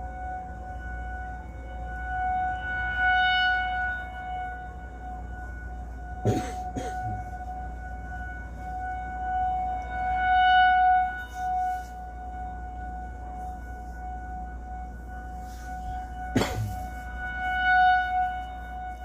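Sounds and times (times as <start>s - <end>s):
distant rotating warning siren: 0.0s - 19.0s.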